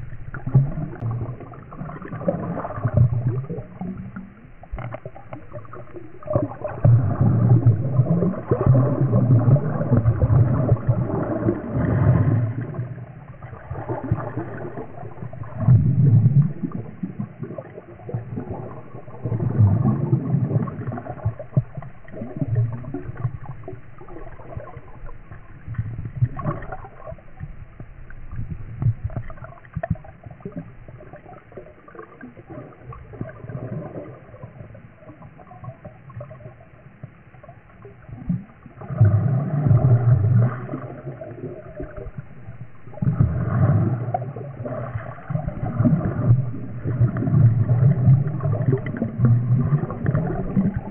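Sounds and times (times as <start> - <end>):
water churning underwater: 0.0 - 50.9.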